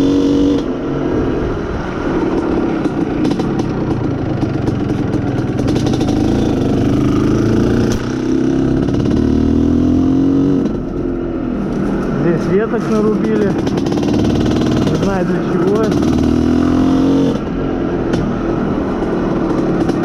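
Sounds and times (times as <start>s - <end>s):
two-stroke motorcycle engine running: 0.0s - 20.0s.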